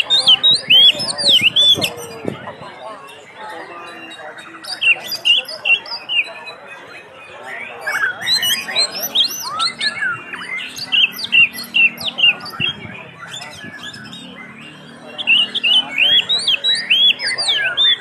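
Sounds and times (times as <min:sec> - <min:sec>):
bird singing whistled notes: 0:00.0 - 0:02.4, 0:03.8 - 0:18.0.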